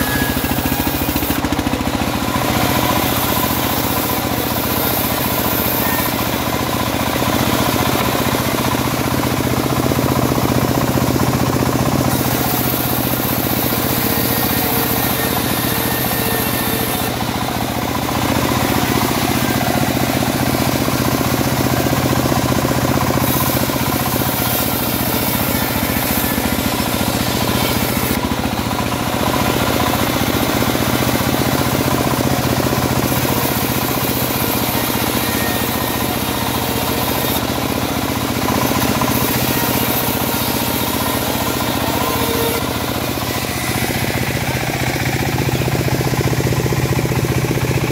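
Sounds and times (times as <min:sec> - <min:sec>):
bandsaw mill hum: 0:00.0 - 0:47.9
saw blade hissing through wood: 0:00.0 - 0:47.9.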